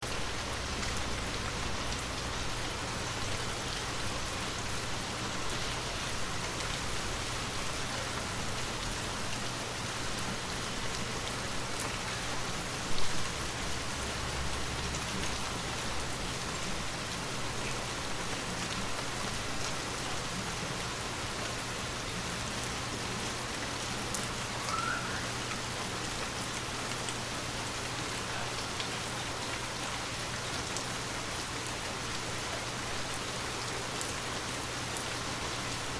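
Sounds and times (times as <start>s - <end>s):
rain pattering on a surface: 0.0s - 35.9s.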